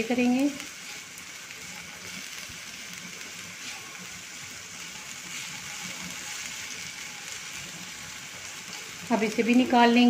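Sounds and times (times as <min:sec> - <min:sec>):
peppers sizzling in frying pan: 0:00.0 - 0:10.0.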